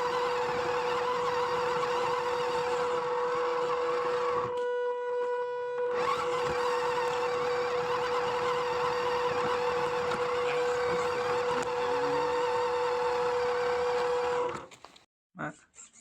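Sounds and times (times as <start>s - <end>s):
toy truck motor whirring: 0.0s - 14.8s.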